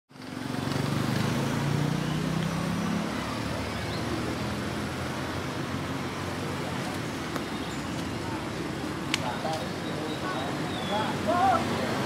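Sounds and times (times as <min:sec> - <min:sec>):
traffic hum: 0:00.1 - 0:12.0
vehicle engine running nearby: 0:00.1 - 0:12.0.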